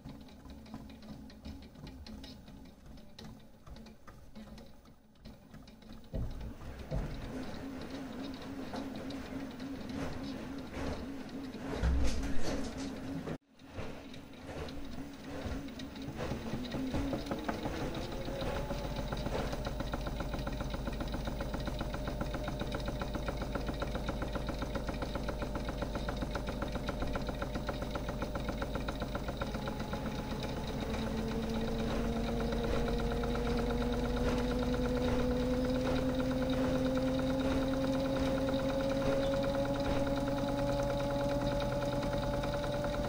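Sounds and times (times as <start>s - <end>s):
toy washing machine motor running: 0.0s - 43.0s
turning drum pulsing: 0.0s - 43.0s.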